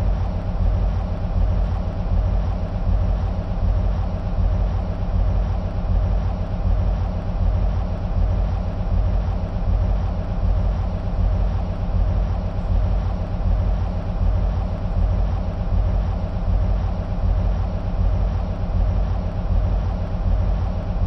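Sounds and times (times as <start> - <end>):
diesel locomotive engines idling: 0.0 - 21.0.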